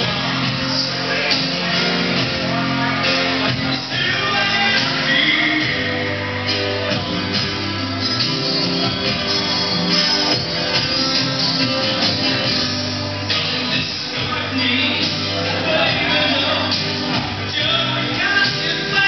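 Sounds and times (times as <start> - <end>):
live music with guitar and beat: 0.0 - 19.0.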